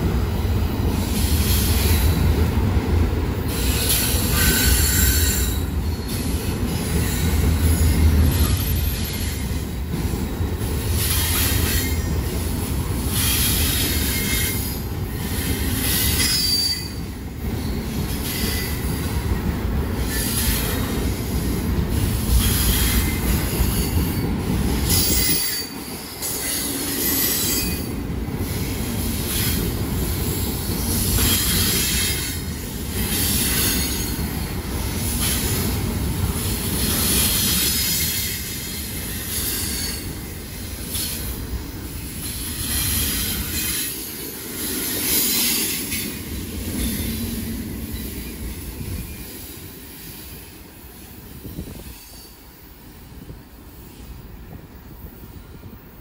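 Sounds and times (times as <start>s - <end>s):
high-pitched rail noise: 0.0s - 54.4s
train cars rolling on rails: 0.0s - 56.0s.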